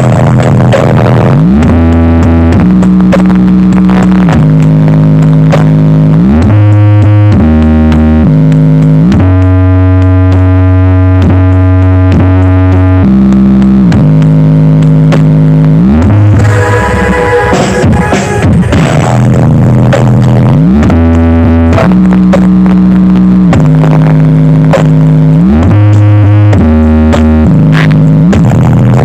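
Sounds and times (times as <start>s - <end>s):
deep synthesizer bass notes: 0.0s - 29.0s.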